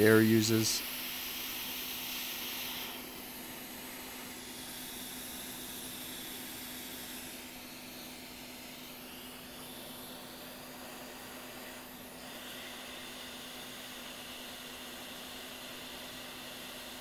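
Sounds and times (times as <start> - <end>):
hot air blower hissing: 0.0 - 17.0.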